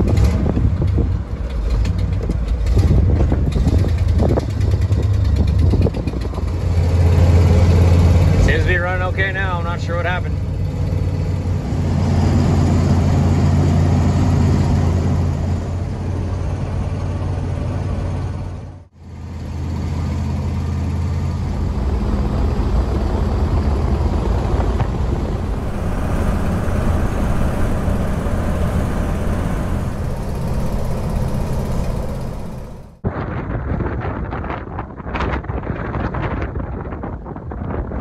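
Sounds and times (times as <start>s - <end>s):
vehicle engine drone: 0.0s - 33.0s
road and wind noise: 0.0s - 38.0s.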